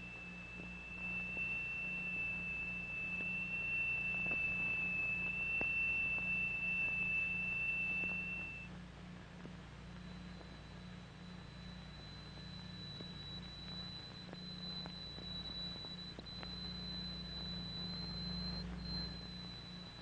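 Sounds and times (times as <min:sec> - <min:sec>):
fainter higher tone: 0:00.0 - 0:08.7, 0:10.0 - 0:20.0
low hum: 0:00.0 - 0:20.0.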